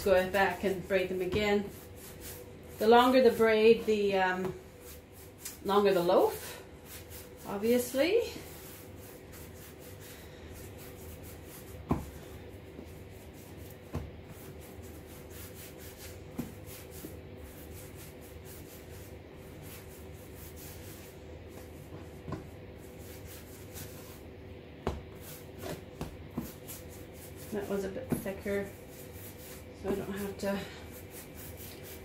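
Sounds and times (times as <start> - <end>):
faint steady hum: 0.0 - 32.0
hands rolling dough on wood: 0.0 - 32.0.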